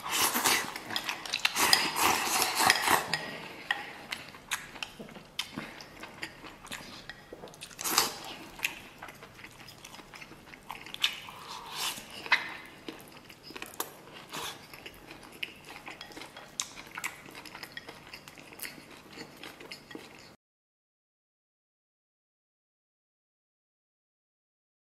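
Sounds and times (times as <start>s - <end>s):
person chewing food: 0.0s - 20.4s.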